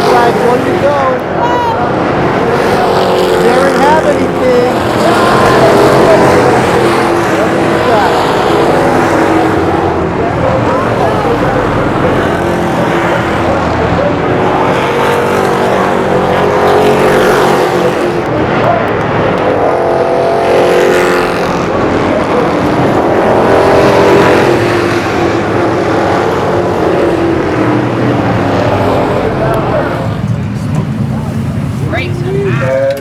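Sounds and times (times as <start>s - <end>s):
race car engines passing by: 0.0s - 33.0s.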